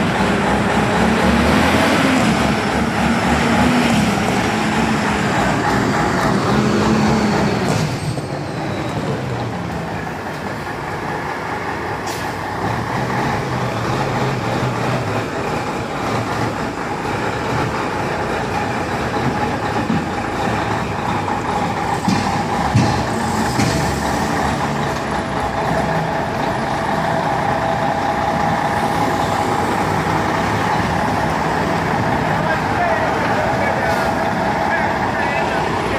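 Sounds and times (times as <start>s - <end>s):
diesel truck engine at low revs: 0.0s - 35.9s.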